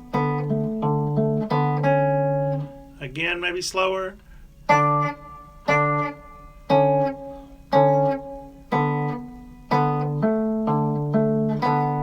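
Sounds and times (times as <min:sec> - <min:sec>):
fingerpicked guitar: 0:00.0 - 0:12.0.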